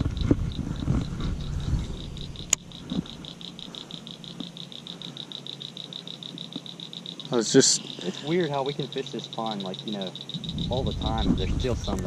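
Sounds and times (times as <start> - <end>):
animal pulsing trill: 0.0 - 12.0
low hum: 0.0 - 12.0.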